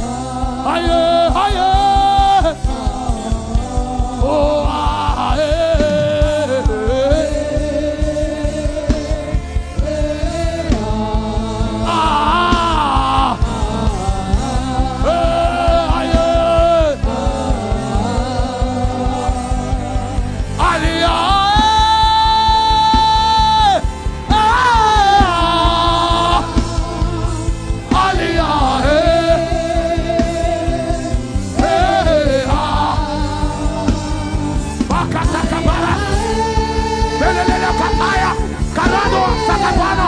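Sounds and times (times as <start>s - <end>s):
gospel backing music with beat: 0.0s - 40.0s
person singing long notes: 0.0s - 40.0s.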